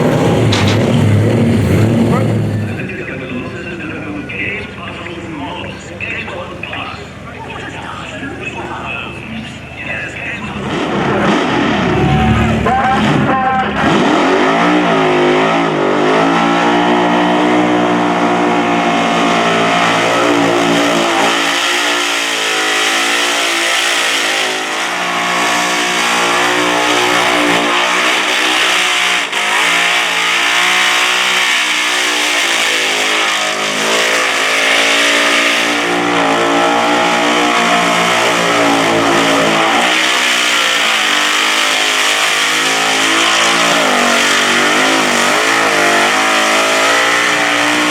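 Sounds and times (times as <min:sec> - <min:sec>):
car engine revving hard: 0:00.0 - 0:03.5, 0:10.0 - 0:47.9.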